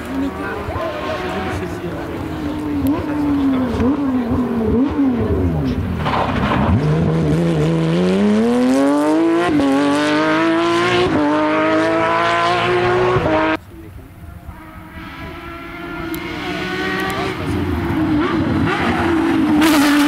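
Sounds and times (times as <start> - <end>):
rally car engine accelerating: 0.0 - 13.6, 14.2 - 20.0.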